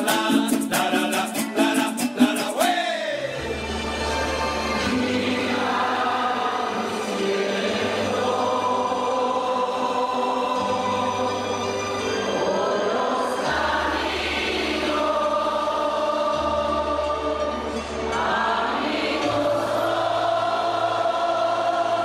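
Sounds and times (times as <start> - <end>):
congregation singing a hymn: 0.0 - 3.4, 4.7 - 22.0.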